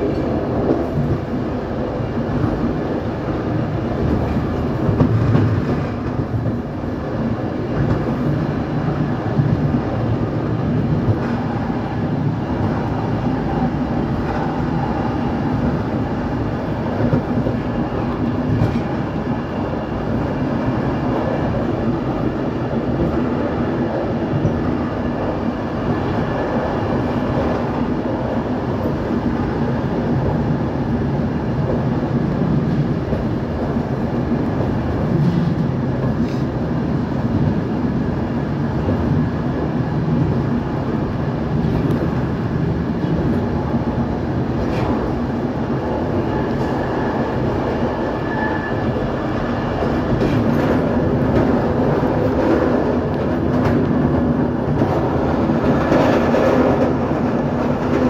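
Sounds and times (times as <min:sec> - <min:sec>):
train wheels on track: 0:00.0 - 0:58.0.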